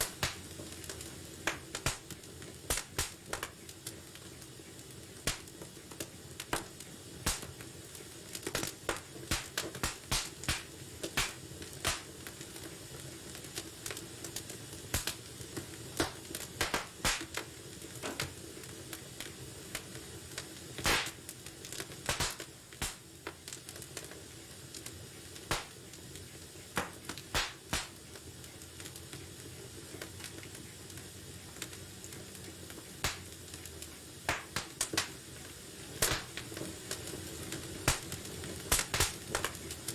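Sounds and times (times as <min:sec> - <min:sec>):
low hiss of fire: 0:00.0 - 0:39.9
wood fire crackling and popping: 0:00.0 - 0:39.9.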